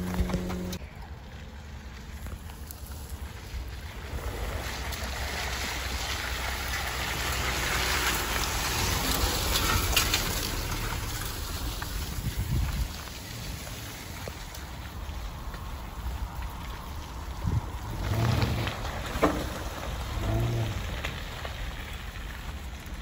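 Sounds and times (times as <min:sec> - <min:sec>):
low vehicle rumble: 0:00.0 - 0:23.0
tyres churning through mud: 0:00.0 - 0:23.0.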